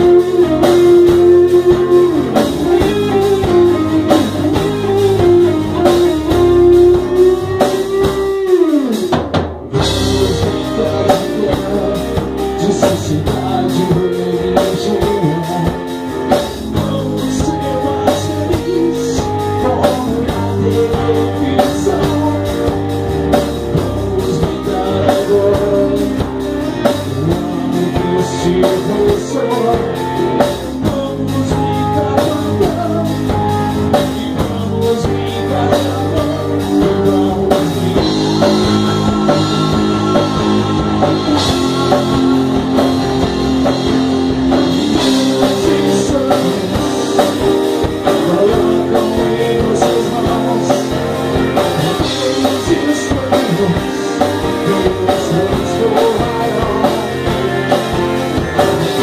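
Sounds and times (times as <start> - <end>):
man singing into a microphone: 0.0 - 9.1, 9.7 - 42.6, 44.8 - 59.0
bass guitar: 0.0 - 59.0
drum kit: 0.0 - 59.0
electric guitars: 0.0 - 59.0.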